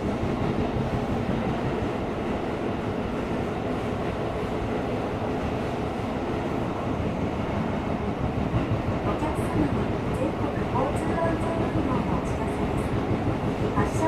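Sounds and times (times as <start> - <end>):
subway train wheels rumbling: 0.0 - 14.0.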